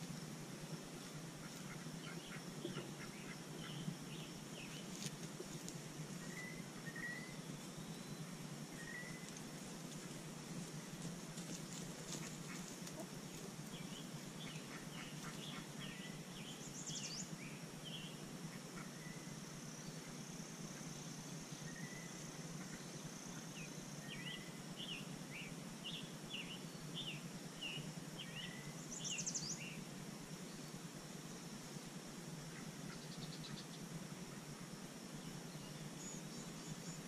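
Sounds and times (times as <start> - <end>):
small birds chirping: 0.0 - 31.0, 31.8 - 37.0
low background hum: 0.0 - 37.0.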